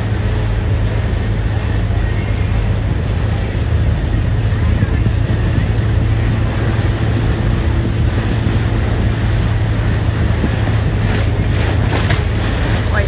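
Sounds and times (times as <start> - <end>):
boat engine drone: 0.0 - 13.0
water noise from hull: 0.0 - 13.0
wind on microphone: 0.0 - 13.0.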